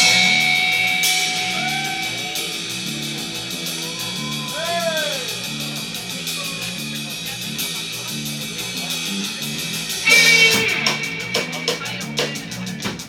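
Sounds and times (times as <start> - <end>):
bass line: 0.0 - 13.0
electric guitar: 0.0 - 13.0
hi-hat ticks: 0.0 - 13.0
live rock band playing: 0.0 - 13.0.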